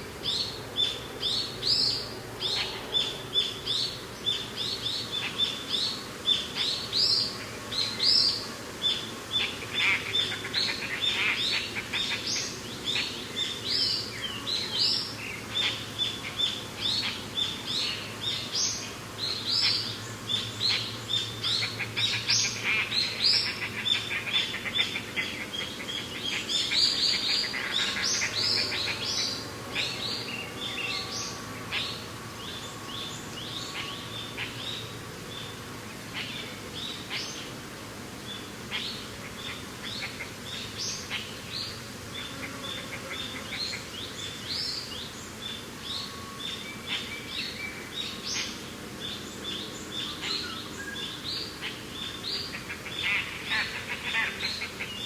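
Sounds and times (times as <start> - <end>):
small birds chirping: 0.2 - 55.0.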